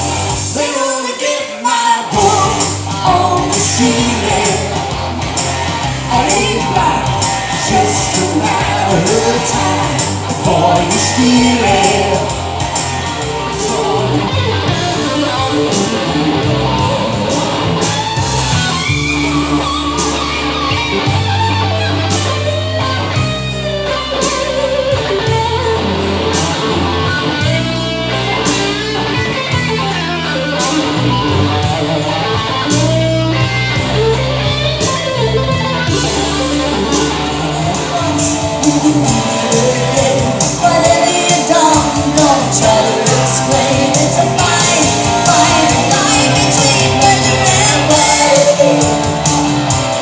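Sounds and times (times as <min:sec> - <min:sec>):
bass notes: 0:00.0 - 0:00.6, 0:02.1 - 0:50.0
steady drum beat: 0:00.0 - 0:00.6, 0:02.1 - 0:50.0
electric guitar playing: 0:00.0 - 0:50.0.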